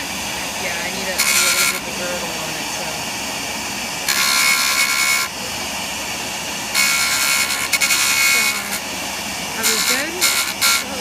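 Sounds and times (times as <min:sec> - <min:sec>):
stone grinding with high whine: 0:00.0 - 0:05.6, 0:06.3 - 0:11.0
grinding machine running: 0:00.0 - 0:11.0.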